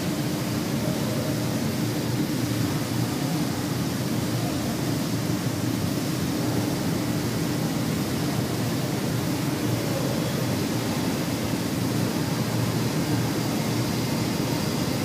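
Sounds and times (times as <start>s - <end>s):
rolling mill machine hum: 0.0s - 15.0s.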